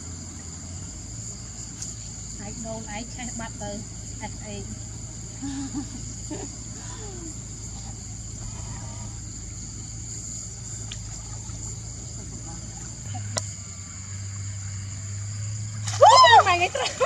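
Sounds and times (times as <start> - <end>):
insects trilling: 0.0 - 17.0
low steady hum: 0.0 - 17.0.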